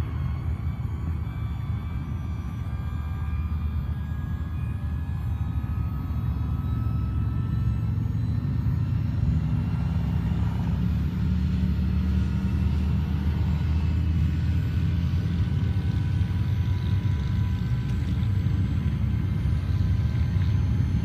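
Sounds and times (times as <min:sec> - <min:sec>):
high motor whine: 0:00.0 - 0:21.0
motor droning: 0:00.0 - 0:21.0.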